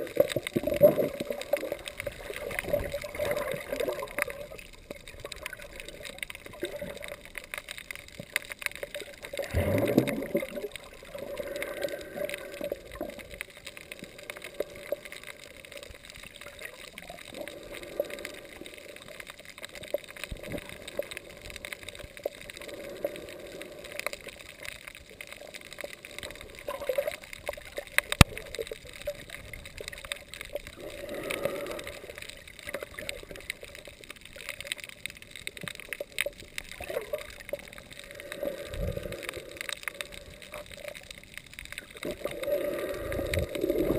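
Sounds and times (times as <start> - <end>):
underwater gurgling and sloshing: 0.0 - 43.9.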